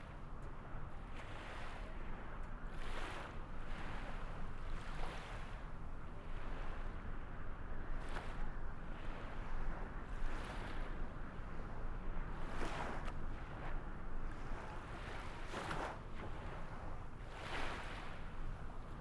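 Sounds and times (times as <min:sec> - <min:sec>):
waves washing in: 0:01.0 - 0:06.8, 0:07.9 - 0:19.0.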